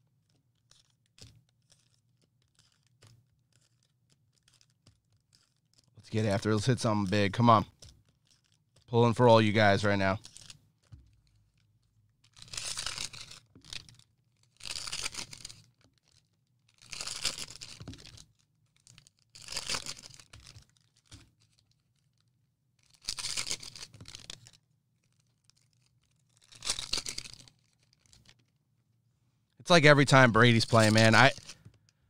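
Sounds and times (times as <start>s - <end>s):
cellophane wrapper tearing: 0.2s - 8.9s, 9.6s - 28.6s, 30.1s - 31.8s.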